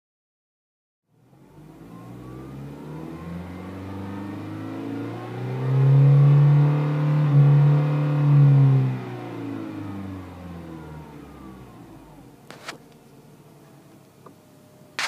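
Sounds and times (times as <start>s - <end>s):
car engine revving: 1.2s - 13.6s.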